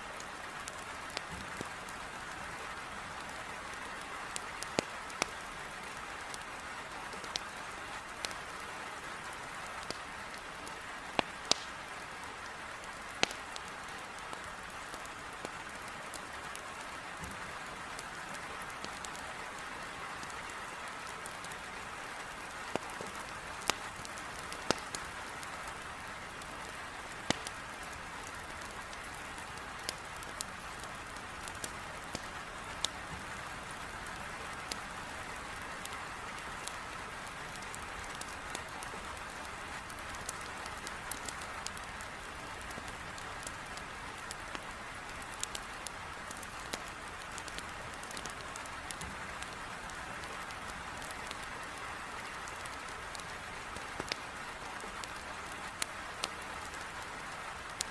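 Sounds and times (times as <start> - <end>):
heavy rain on a window: 0.1 - 57.9
wood fire crackling and popping: 0.1 - 57.9.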